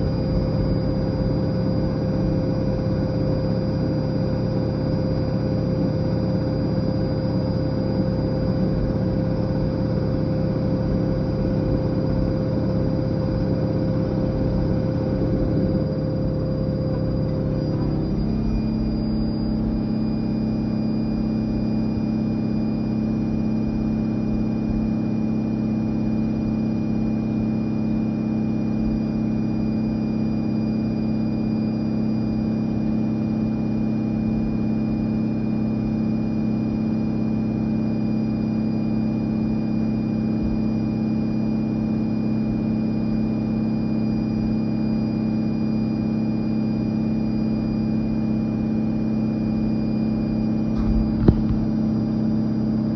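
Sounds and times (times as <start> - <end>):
washing machine spinning: 0.0 - 37.9, 39.6 - 52.9.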